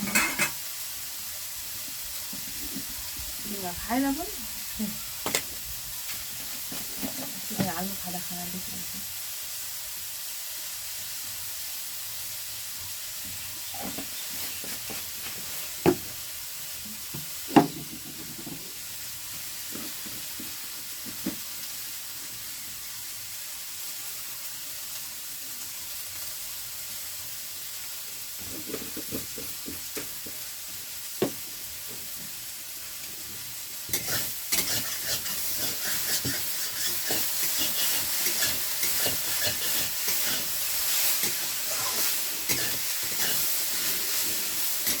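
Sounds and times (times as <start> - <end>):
potatoes sizzling in oil: 0.0 - 45.0.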